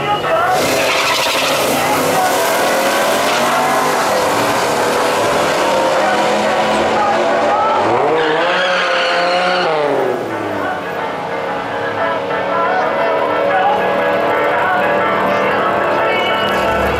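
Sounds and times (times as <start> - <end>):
pickup truck racing: 0.0 - 16.9
car engine accelerating at full throttle: 0.5 - 16.9.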